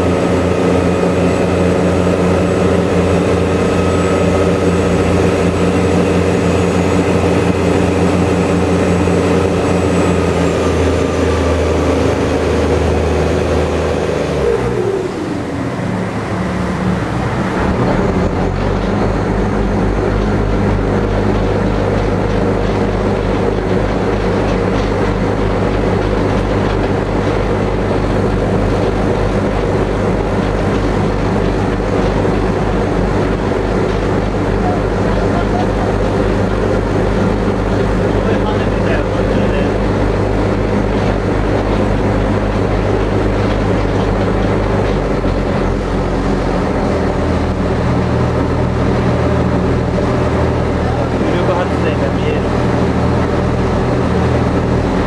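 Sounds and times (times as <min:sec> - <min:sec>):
ferry engines droning: 0:00.0 - 0:55.0.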